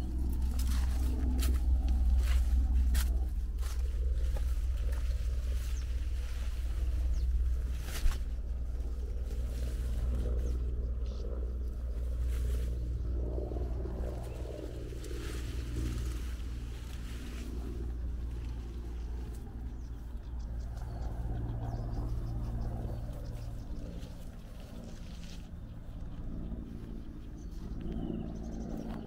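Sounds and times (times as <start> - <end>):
faint outdoor background noise: 0.0 - 29.0
low engine hum: 0.0 - 29.0.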